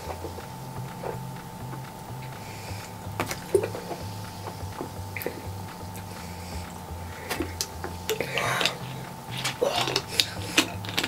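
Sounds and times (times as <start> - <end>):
quiet background music with bass: 0.0 - 11.0.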